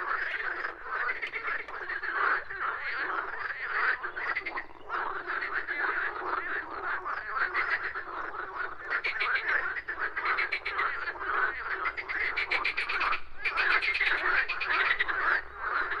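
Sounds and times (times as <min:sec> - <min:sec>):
frogs croaking: 0:00.0 - 0:16.0.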